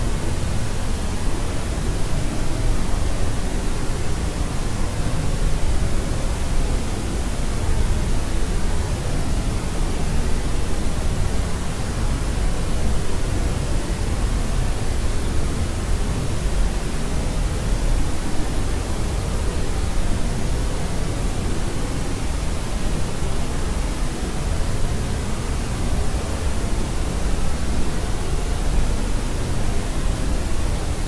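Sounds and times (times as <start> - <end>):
white noise hiss: 0.0 - 31.0.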